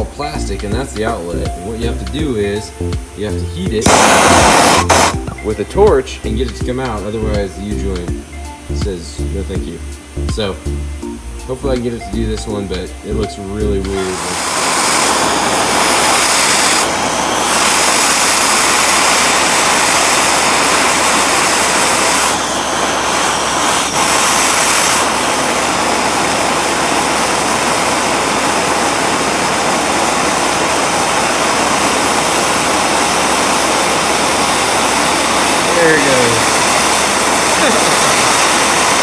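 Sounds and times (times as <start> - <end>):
gas torch flame roaring: 0.0 - 39.0.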